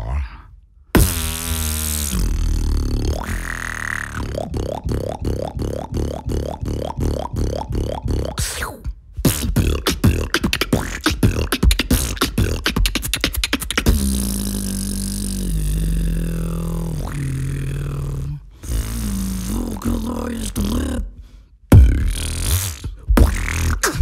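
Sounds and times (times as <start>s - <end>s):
beatbox clicks and beats: 1.0s - 15.9s, 18.6s - 20.9s, 21.7s - 24.0s
held beatbox bass note: 1.0s - 21.1s, 21.7s - 24.0s
wavering vocal note: 1.0s - 24.0s.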